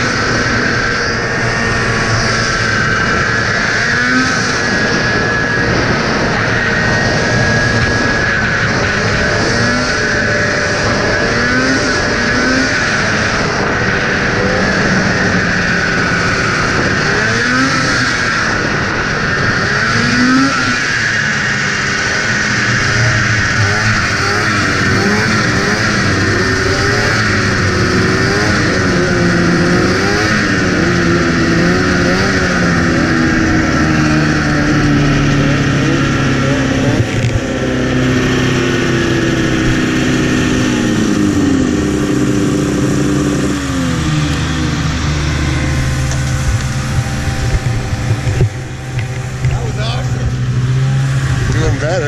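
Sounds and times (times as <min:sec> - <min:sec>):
snowmobile engine revving and idling: 0:00.0 - 0:52.0.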